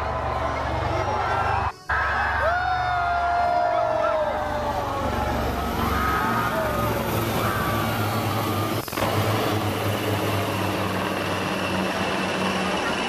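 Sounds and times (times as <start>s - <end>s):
helicopter rotors and turbines: 0.0s - 13.0s.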